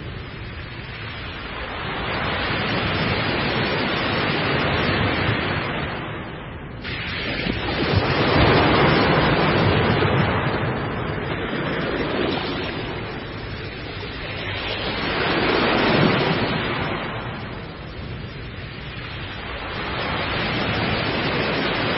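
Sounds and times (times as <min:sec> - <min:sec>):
ocean waves breaking: 0:00.0 - 0:21.9.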